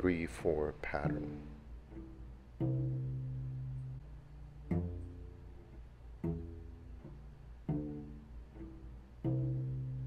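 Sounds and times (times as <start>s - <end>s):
cello plucked pizzicato: 0.0s - 10.0s.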